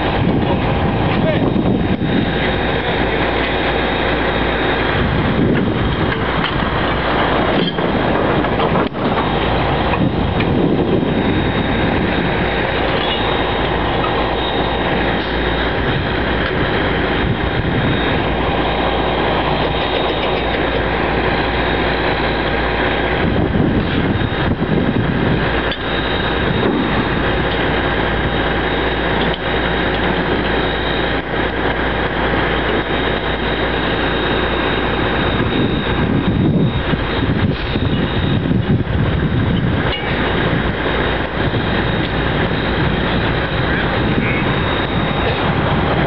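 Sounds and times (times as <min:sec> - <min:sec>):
heavy engine running: 0:00.0 - 0:46.0.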